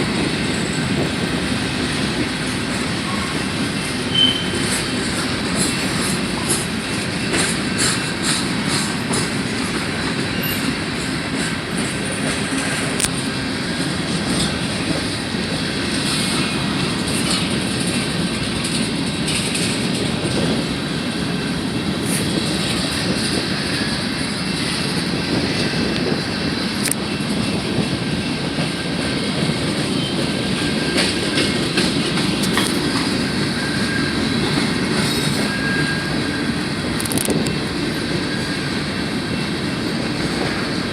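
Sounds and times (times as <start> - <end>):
train rolling past: 0.0 - 40.9
wheels clicking on track: 0.0 - 40.9.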